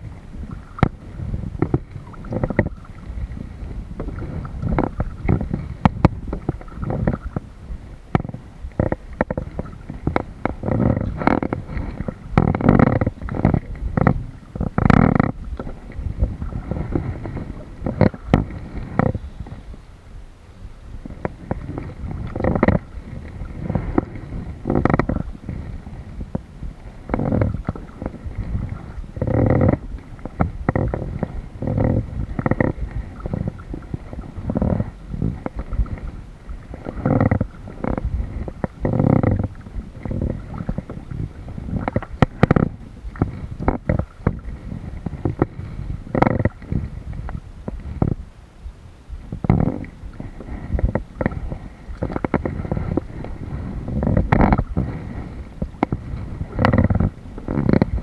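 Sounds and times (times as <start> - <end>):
water sloshing against kayak: 0.0 - 58.0.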